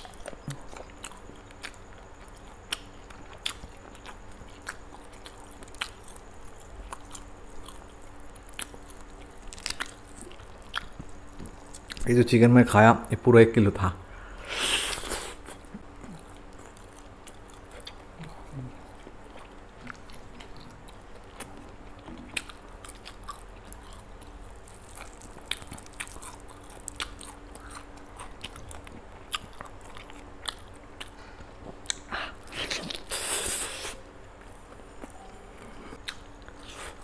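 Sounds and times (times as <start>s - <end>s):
chewing with wet mouth sounds: 0.0s - 12.1s, 14.9s - 37.0s.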